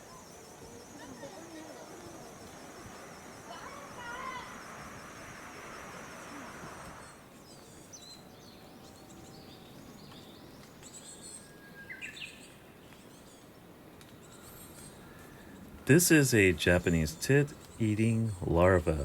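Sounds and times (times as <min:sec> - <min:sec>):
faint outdoor background noise: 0:00.0 - 0:19.0
small birds chirping: 0:00.0 - 0:19.0.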